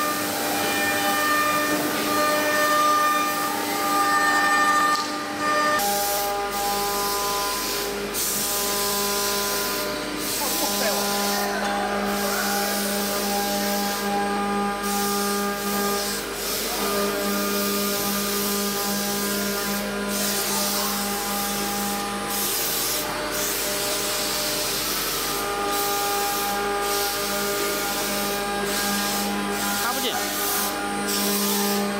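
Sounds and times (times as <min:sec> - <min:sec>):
hiss of wood being cut: 0:05.8 - 0:31.9.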